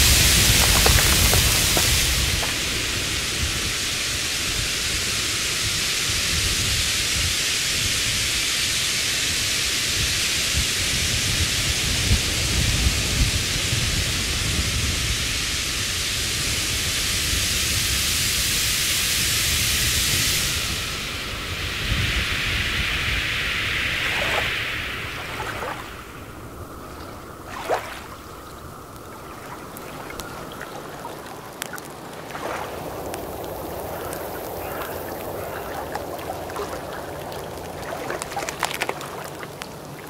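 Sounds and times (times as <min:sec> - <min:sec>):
steady high hiss: 0:00.0 - 0:40.0.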